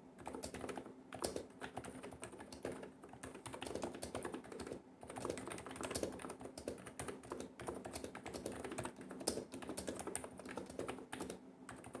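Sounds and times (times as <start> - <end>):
keyboard typing: 0.2 - 12.0.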